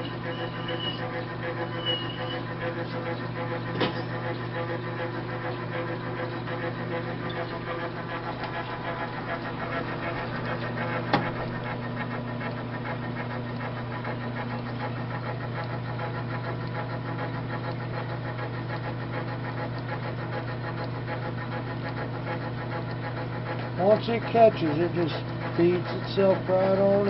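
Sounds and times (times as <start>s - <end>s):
lathe motor humming: 0.0s - 27.0s.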